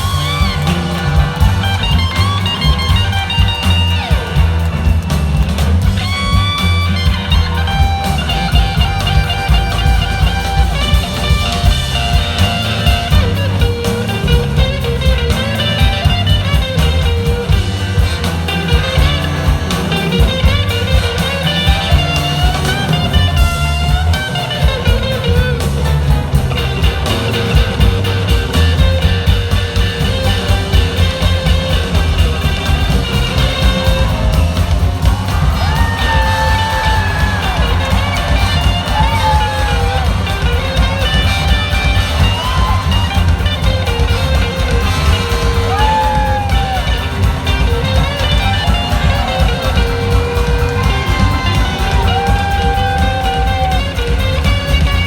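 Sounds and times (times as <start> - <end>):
bass guitar: 0.0 - 55.0
drums: 0.0 - 55.0
electric lead guitar bending notes: 0.0 - 55.0.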